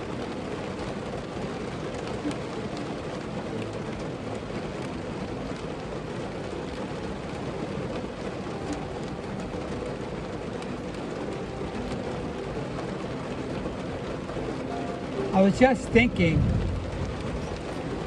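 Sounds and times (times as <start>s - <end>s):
rain falling on a car: 0.0s - 18.0s.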